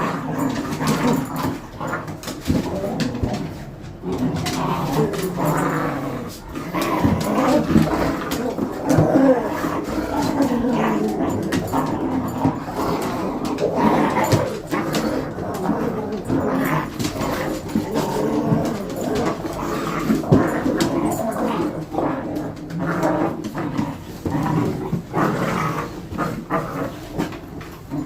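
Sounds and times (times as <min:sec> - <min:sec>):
dogs growling: 0:00.0 - 0:28.0
dogs scuffling and clicking: 0:00.0 - 0:28.0.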